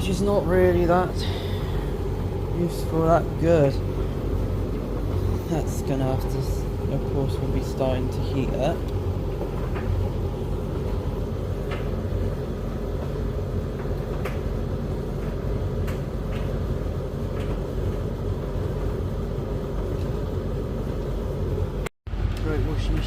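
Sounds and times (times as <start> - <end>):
washing machine drum rumbling: 0.0 - 23.0.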